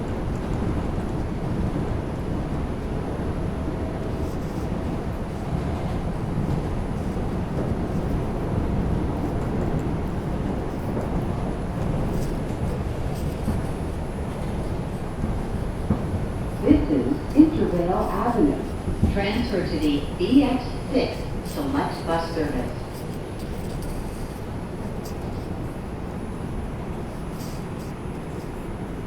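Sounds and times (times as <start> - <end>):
subway car running rumble: 0.0 - 29.0.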